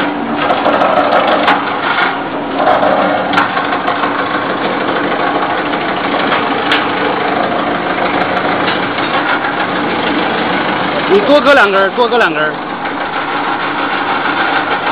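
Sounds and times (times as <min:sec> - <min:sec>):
wood shaving machine running: 0:00.0 - 0:14.9.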